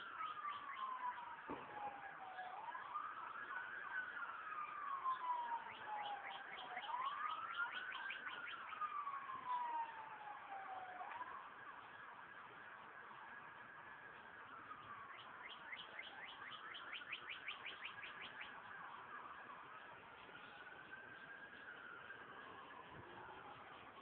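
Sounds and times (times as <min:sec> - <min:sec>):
emergency siren wailing: 0:00.0 - 0:24.0.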